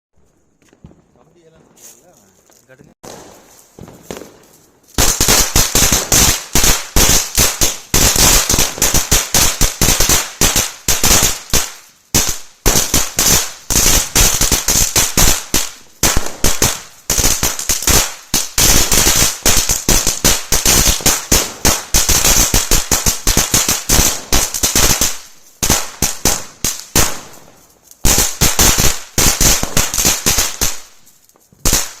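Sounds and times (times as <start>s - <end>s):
firecrackers banging: 3.0s - 32.0s.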